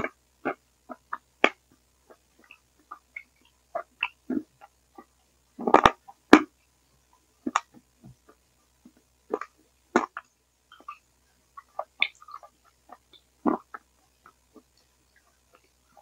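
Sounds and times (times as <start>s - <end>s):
person chewing food: 0.0s - 6.5s, 7.5s - 11.0s, 11.6s - 16.0s.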